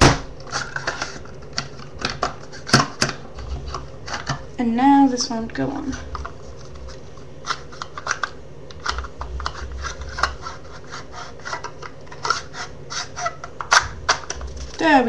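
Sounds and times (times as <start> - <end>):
plastic parts clicking and scraping: 0.4 - 4.4, 5.8 - 14.8.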